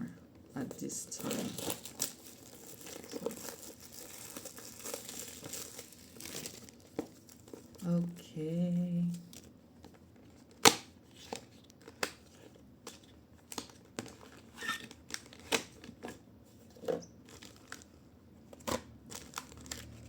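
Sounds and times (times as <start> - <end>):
packaging crinkling: 0.7 - 7.9, 9.2 - 16.2, 16.8 - 17.9, 18.5 - 20.0.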